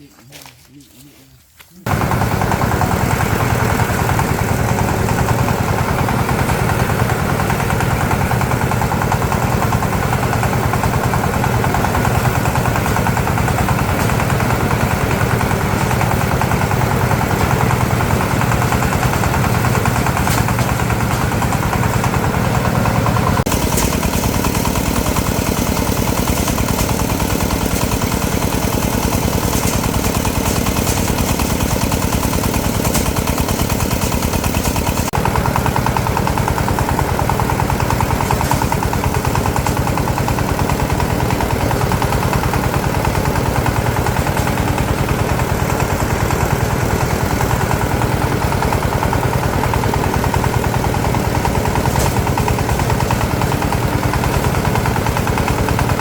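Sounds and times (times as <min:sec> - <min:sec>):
small engine chugging: 0:01.8 - 0:56.0.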